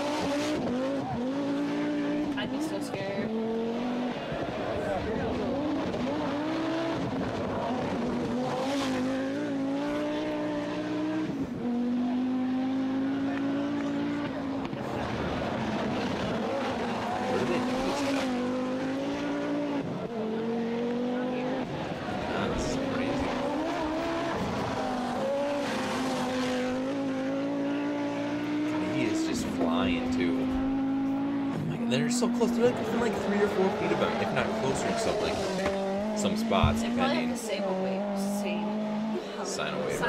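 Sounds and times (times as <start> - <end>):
rally car engine at high revs: 0.0 - 40.0.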